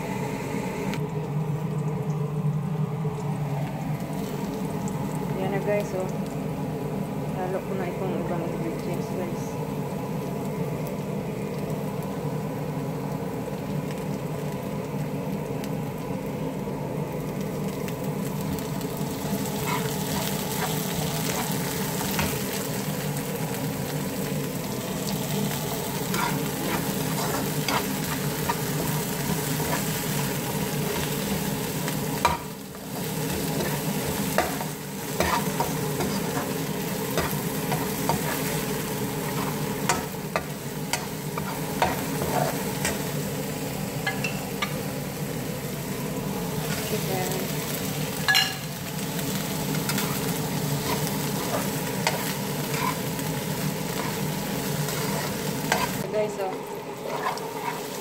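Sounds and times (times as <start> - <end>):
vegetables sizzling in hot oil: 1.2 - 58.0.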